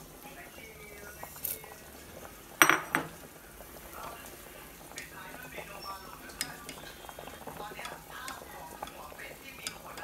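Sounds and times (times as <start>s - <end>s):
soup simmering in saucepan: 0.0s - 10.0s.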